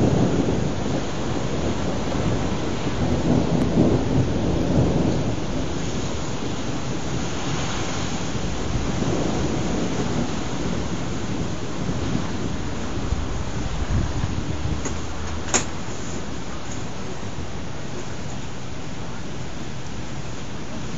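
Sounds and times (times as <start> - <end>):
steady rain hiss: 0.0 - 20.9
thunder rumbling: 0.0 - 20.9.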